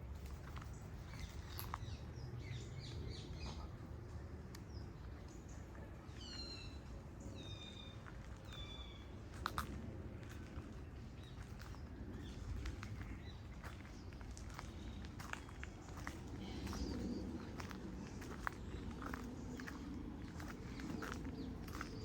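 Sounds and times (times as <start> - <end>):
steady low rumble: 0.0 - 22.0
birds chirping: 0.2 - 9.5, 10.2 - 22.0.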